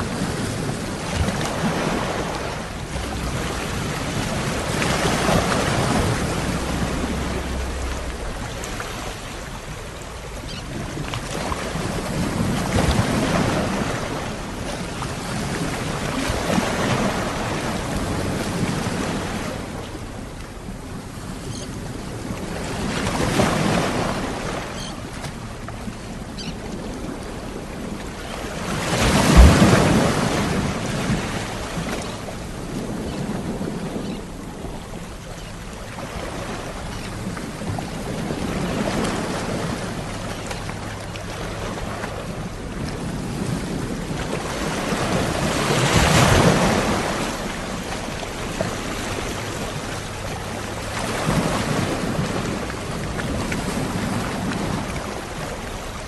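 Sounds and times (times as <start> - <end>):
ocean waves washing ashore: 0.0 - 56.0.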